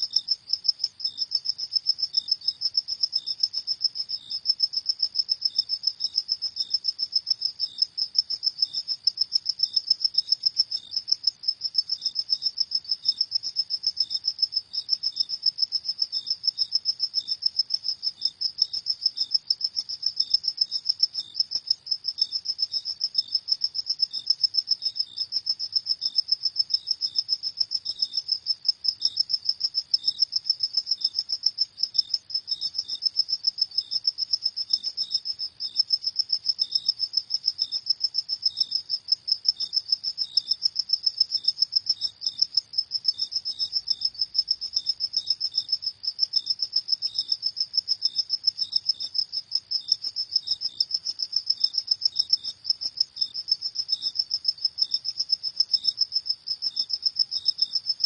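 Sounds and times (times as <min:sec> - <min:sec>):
crickets chirping: 0:00.0 - 0:58.0
slower lower cricket chirp: 0:00.0 - 0:58.0.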